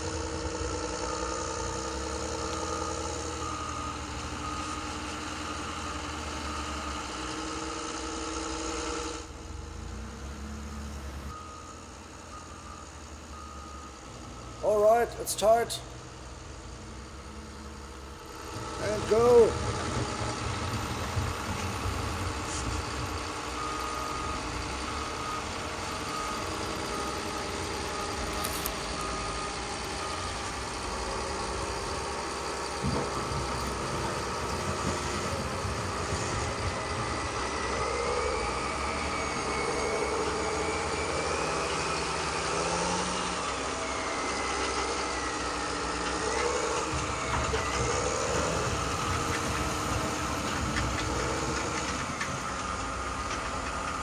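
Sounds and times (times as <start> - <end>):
reversing beeper: 0.0 - 16.5, 17.1 - 54.0
model loader engine drone: 0.0 - 54.0.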